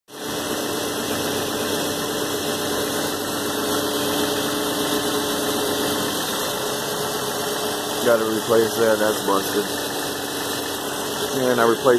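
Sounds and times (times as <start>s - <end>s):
car engine idling: 0.1s - 11.9s.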